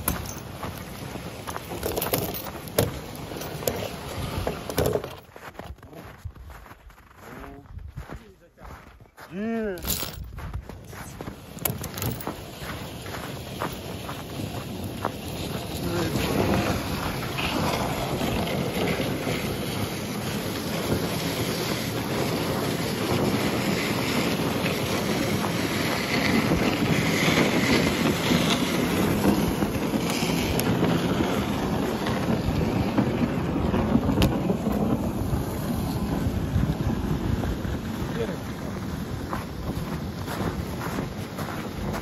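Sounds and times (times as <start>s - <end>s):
wind buffeting microphone: 7.6s - 42.0s.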